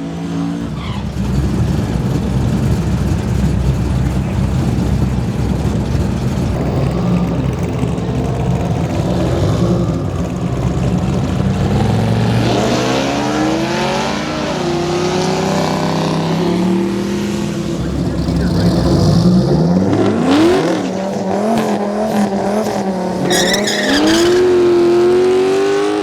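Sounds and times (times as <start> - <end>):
racing car engine accelerating: 0.0 - 26.0.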